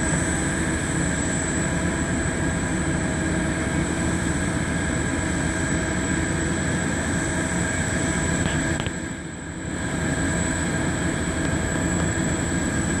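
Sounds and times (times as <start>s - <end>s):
machinery whine: 0.0s - 13.0s.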